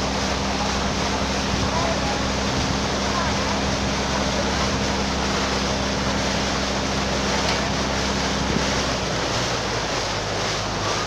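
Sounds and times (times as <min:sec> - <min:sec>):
boat engine hum: 0:00.0 - 0:11.0
churning wake water: 0:00.0 - 0:11.0
wind: 0:00.0 - 0:11.0.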